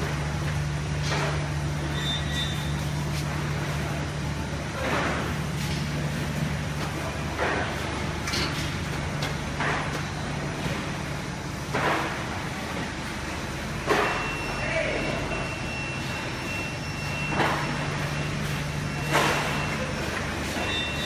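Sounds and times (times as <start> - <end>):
oven machine hum: 0.0 - 21.0.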